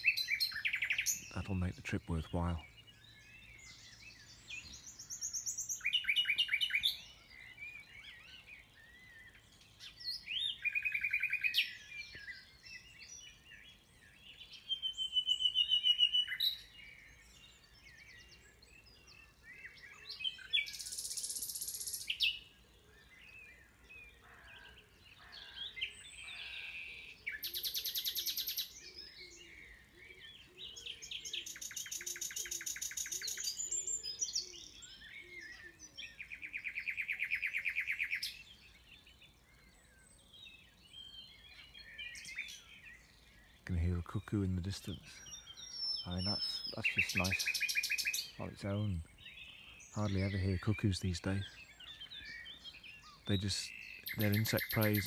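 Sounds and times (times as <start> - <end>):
faint bird calls: 0.0 - 13.5, 14.2 - 55.0
nightingale singing: 0.0 - 55.0.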